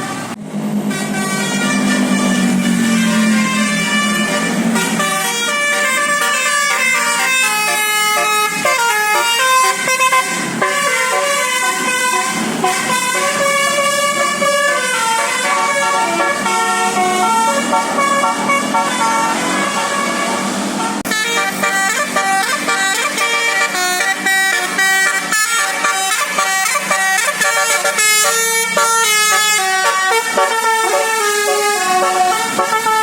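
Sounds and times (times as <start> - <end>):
multi-tone air horn tune: 0.0 - 33.0.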